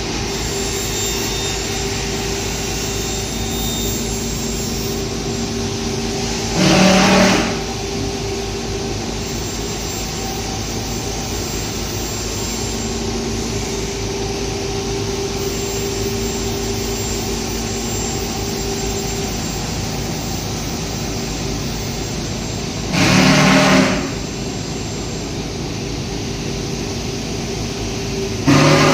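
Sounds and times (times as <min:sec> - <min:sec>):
mechanical drone: 0:00.0 - 0:28.9.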